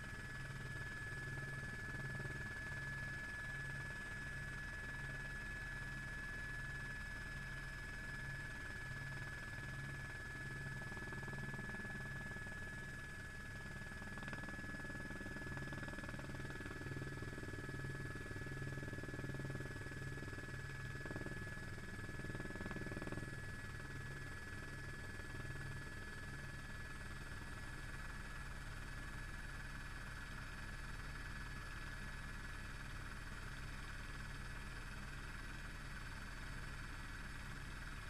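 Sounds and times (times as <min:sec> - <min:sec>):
constant high whine: 0:00.0 - 0:38.0
helicopter rotor throb: 0:00.0 - 0:38.0.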